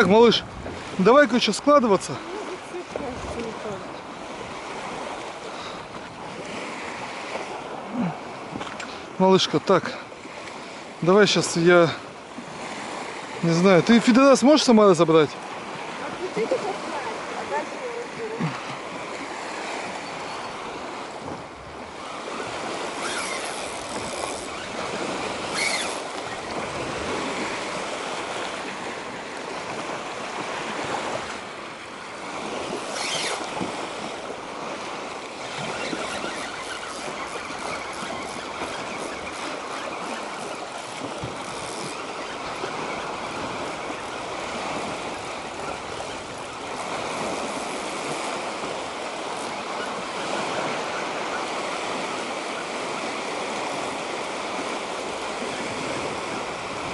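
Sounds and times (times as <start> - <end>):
small waves lapping: 0.0 - 56.9
wind: 0.0 - 56.9.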